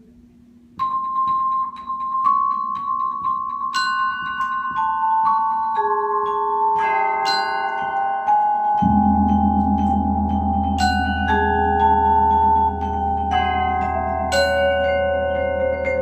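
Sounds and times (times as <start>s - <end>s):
mallet percussion ensemble: 0.8s - 16.0s.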